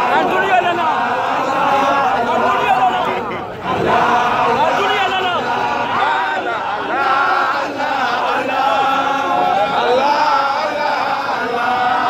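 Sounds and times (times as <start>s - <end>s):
crowd chanting: 0.0s - 12.0s
crowd noise: 0.0s - 12.0s.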